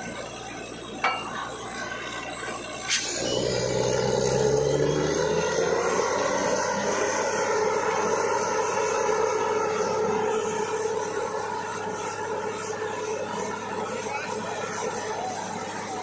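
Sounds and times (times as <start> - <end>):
heavy engine droning: 0.0 - 16.0.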